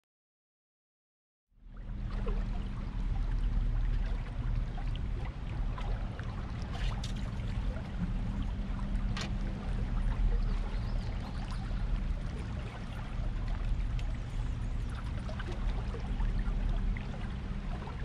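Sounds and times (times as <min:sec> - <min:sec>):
steady low hum: 0:01.6 - 0:18.0
water lapping along boat hull: 0:01.6 - 0:18.0.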